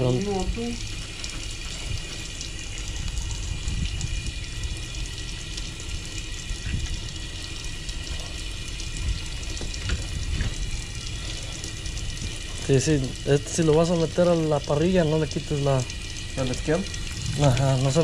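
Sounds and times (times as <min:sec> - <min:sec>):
tap water running onto metal: 0:00.0 - 0:18.0.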